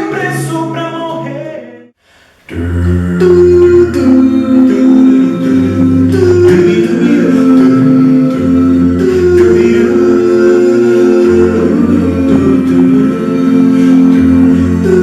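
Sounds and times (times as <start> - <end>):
male a cappella group singing: 0.0 - 15.0.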